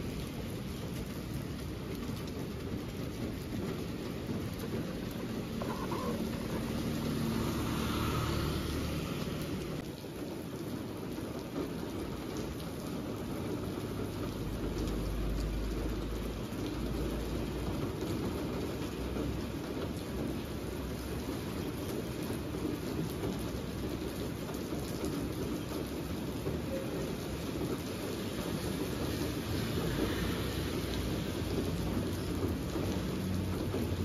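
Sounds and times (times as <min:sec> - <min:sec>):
rain falling on street: 0:00.0 - 0:34.0.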